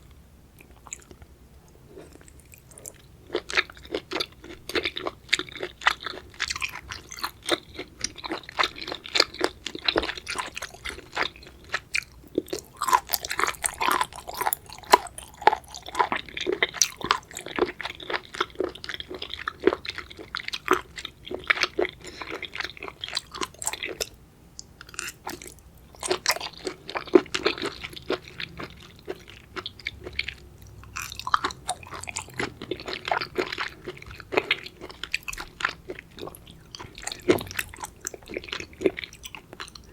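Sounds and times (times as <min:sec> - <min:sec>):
crunchy wet chewing: 0:00.6 - 0:01.3, 0:01.9 - 0:39.9.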